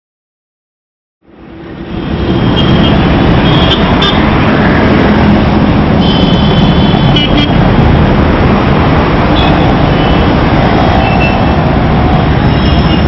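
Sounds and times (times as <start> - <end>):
road traffic noise: 1.2 - 13.0.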